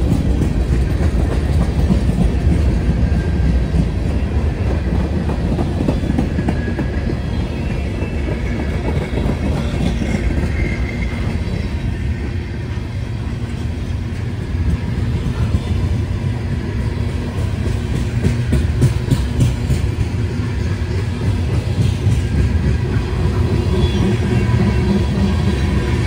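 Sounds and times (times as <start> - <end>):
sharp clicks of train wheels: 0.0 - 26.0
train wheels rumbling on rails: 0.0 - 26.0.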